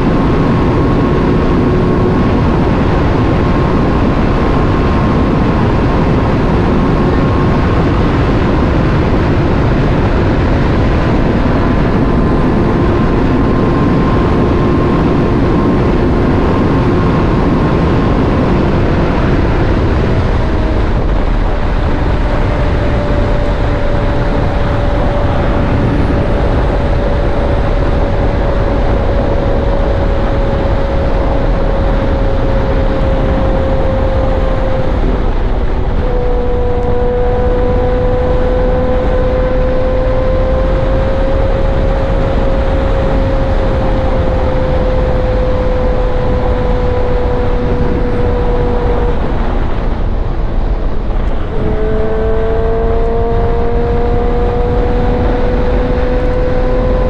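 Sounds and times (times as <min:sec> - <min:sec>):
motorcycle engine: 0:00.0 - 0:57.0
wind and road noise: 0:00.0 - 0:57.0.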